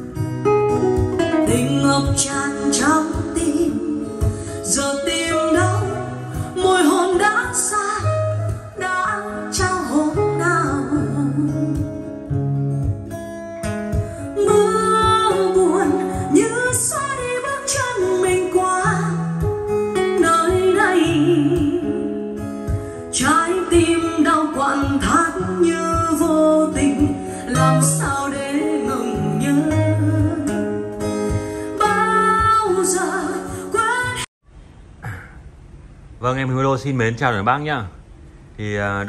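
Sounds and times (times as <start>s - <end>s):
song with guitar and bass: 0.0s - 34.3s.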